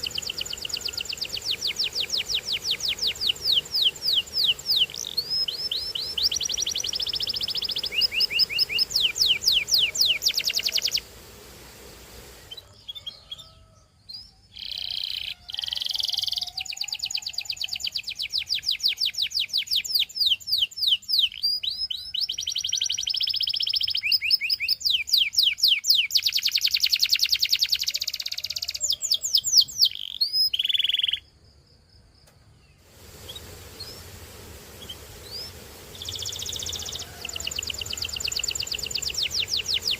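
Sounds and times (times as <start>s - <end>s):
canary singing trills: 0.0s - 11.1s, 12.4s - 31.3s, 34.8s - 39.9s.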